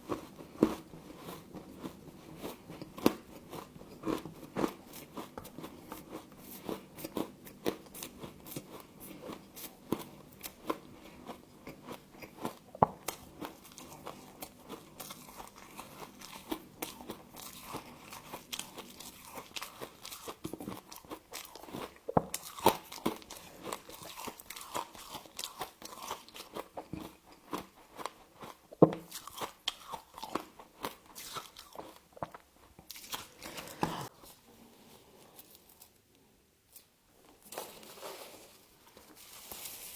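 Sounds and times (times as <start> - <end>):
person chewing crunchy ice: 0.0 - 34.1.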